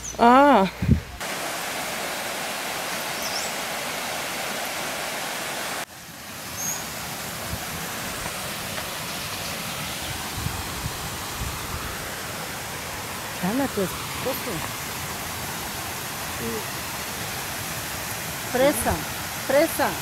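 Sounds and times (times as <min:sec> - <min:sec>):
river water rushing: 0:01.2 - 0:20.0.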